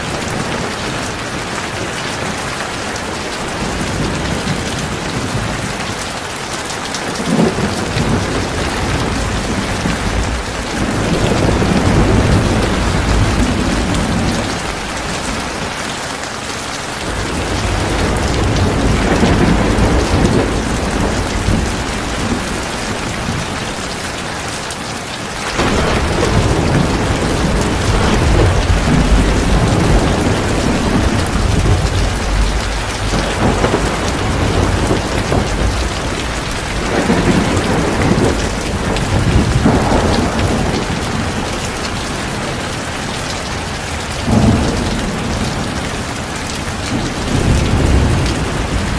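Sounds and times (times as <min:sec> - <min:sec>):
heavy rain pouring: 0:00.0 - 0:48.9
thunder rumbling: 0:07.0 - 0:15.9, 0:17.0 - 0:24.5, 0:25.4 - 0:48.9.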